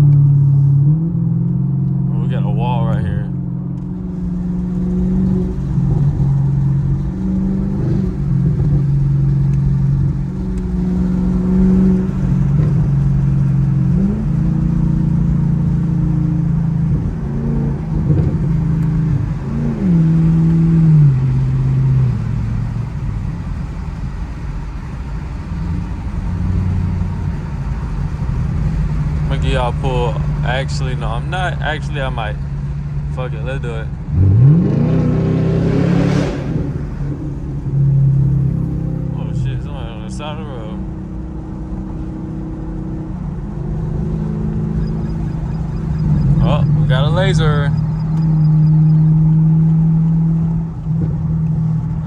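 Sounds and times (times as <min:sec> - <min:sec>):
car engine and exhaust driving: 0:00.0 - 0:52.0.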